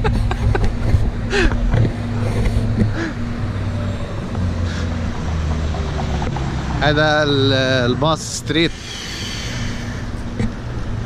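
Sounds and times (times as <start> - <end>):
bus engine idling: 0.0 - 11.0
street traffic: 0.0 - 11.0.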